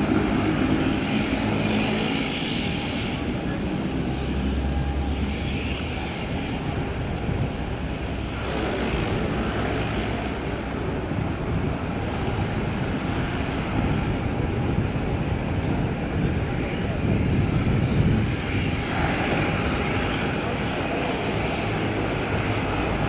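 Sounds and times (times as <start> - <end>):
turboprop engines running: 0.0 - 23.0.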